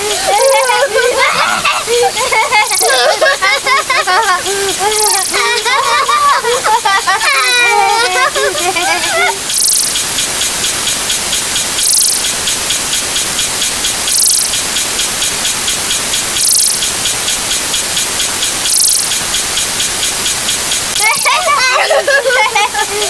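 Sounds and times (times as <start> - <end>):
fast ticking: 0.0 - 23.0
loud even hiss: 0.0 - 23.0
short bright bursts: 0.0 - 23.0.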